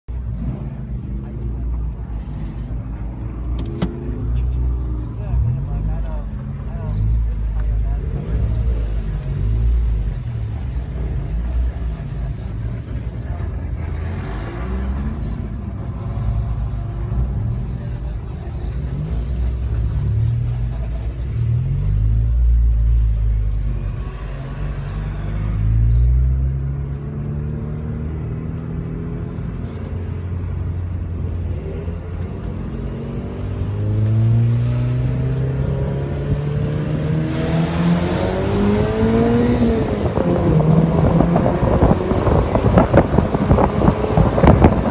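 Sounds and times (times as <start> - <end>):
car engine revving at racing speed: 0.1 - 44.9.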